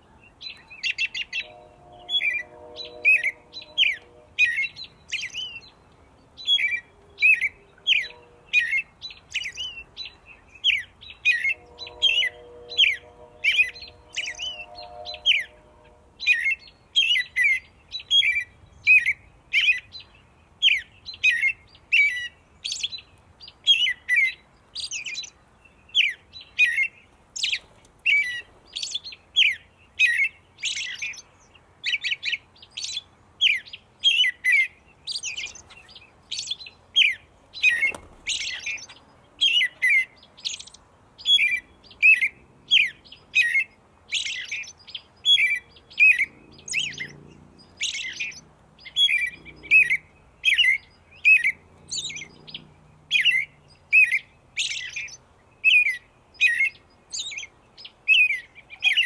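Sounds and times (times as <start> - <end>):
songbird chirping: 0.0 - 59.0.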